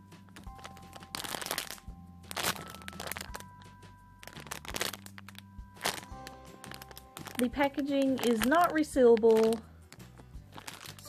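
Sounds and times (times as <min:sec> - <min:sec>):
plastic packaging crinkling: 0:00.3 - 0:11.0.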